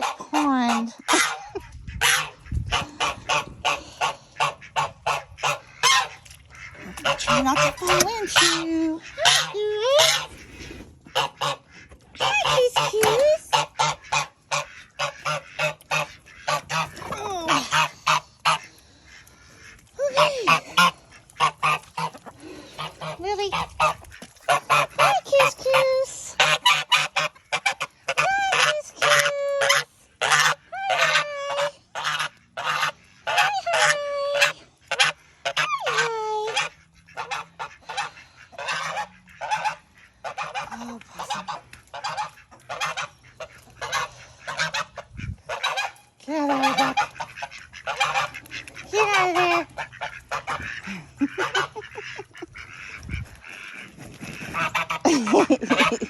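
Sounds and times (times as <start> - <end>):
goose honking: 0.0 - 56.0.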